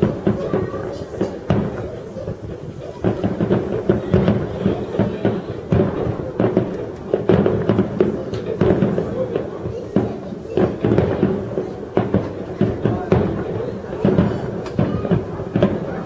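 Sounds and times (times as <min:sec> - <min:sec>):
firework crackling: 0:00.0 - 0:16.0
firework shells bursting: 0:00.0 - 0:16.0.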